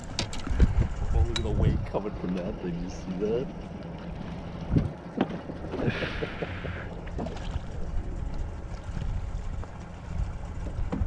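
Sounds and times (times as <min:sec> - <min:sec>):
wind buffeting microphone: 0:00.0 - 0:03.6, 0:04.6 - 0:11.0
water lapping around boat: 0:00.0 - 0:11.0.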